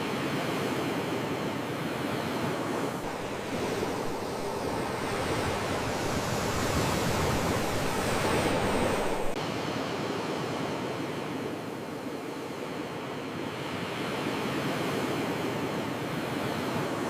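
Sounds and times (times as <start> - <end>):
ocean waves surf: 0.0 - 17.0.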